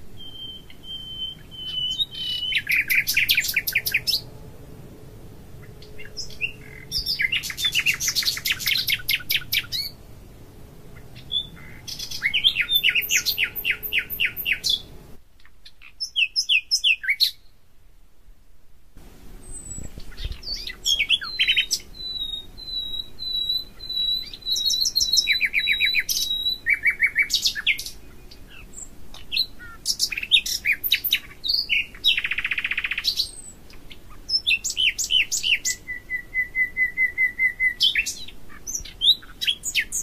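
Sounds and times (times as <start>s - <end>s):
songbird trilling: 0.2s - 4.3s, 5.6s - 10.0s, 11.0s - 17.5s, 19.4s - 40.0s.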